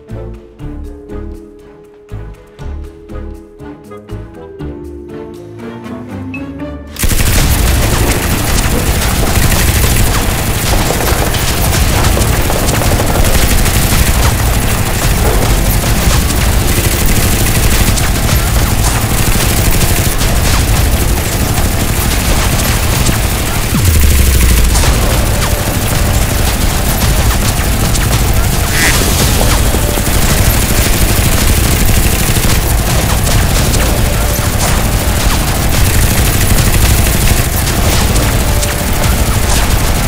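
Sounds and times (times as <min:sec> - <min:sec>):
rapid automatic gunfire: 0:07.0 - 0:40.0.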